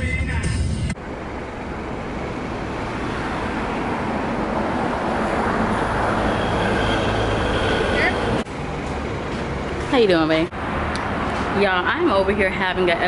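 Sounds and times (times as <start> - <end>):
passing vehicles rushing: 0.9 - 13.0.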